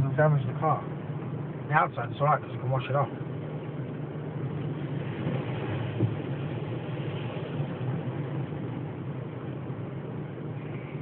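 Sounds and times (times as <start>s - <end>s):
car engine idling: 0.0s - 11.0s
constant rushing hiss: 0.0s - 11.0s.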